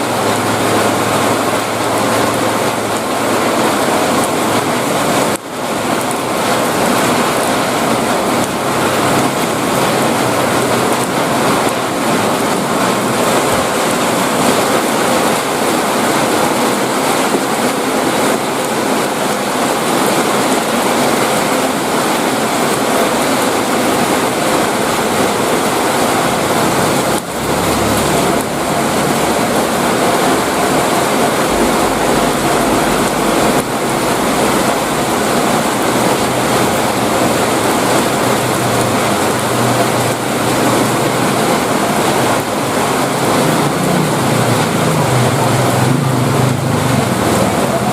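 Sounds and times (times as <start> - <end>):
heavy rain downpour: 0.0 - 47.9.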